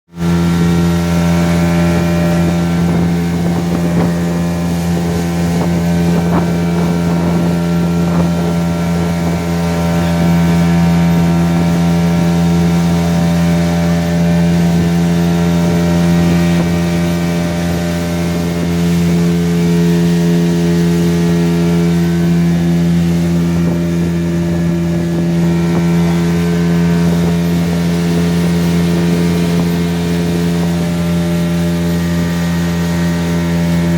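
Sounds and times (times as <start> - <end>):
motorboat engine running: 0.1 - 33.9
wind: 0.1 - 33.9.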